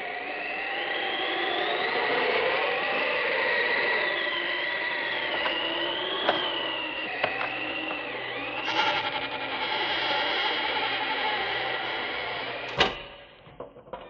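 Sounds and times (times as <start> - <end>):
steady held tone: 0.0 - 13.7
high wavering whine: 0.0 - 14.0.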